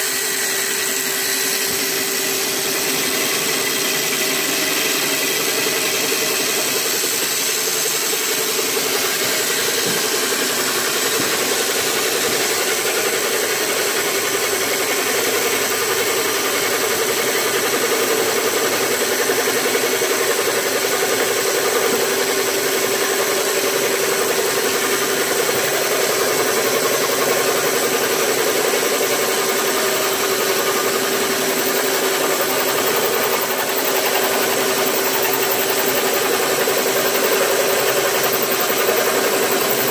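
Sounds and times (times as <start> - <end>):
boring machine humming: 0.0 - 39.9.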